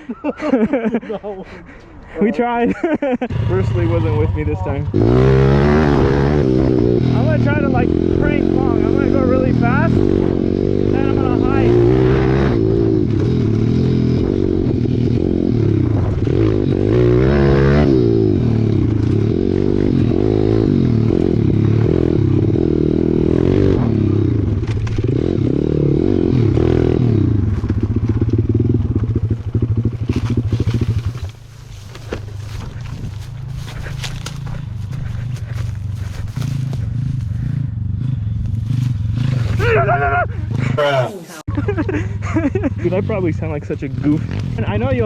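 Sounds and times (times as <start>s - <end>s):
pit bike engine revving: 3.0s - 45.0s.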